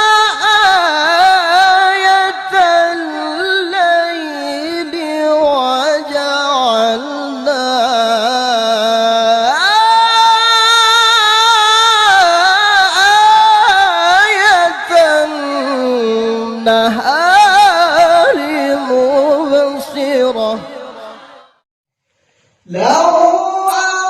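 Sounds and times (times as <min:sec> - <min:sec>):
man reciting in melodic style: 0:00.0 - 0:21.4, 0:22.7 - 0:24.0.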